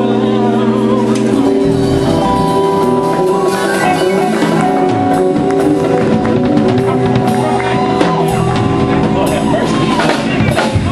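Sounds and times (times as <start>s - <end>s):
bass: 0.0s - 10.9s
drum kit beat: 0.0s - 10.9s
keyboard chords: 0.0s - 10.9s.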